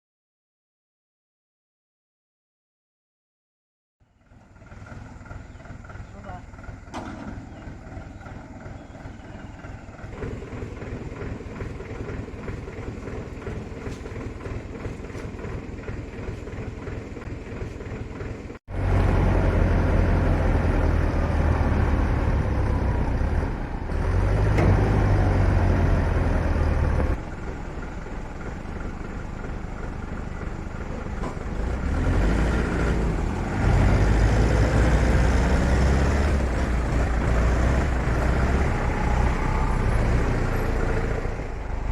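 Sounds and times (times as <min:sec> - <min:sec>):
heavy engine running steadily: 0:04.1 - 0:41.9
heavy engine revving: 0:04.6 - 0:41.9.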